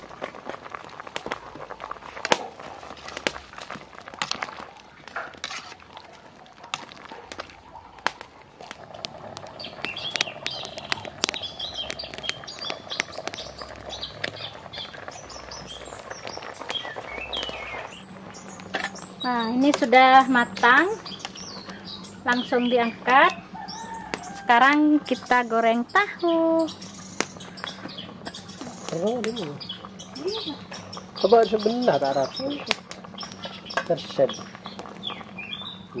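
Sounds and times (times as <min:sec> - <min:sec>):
soup boiling hard: 0:00.0 - 0:36.0
wood fire popping and crackling: 0:00.0 - 0:36.0
birds chirping: 0:06.0 - 0:36.0.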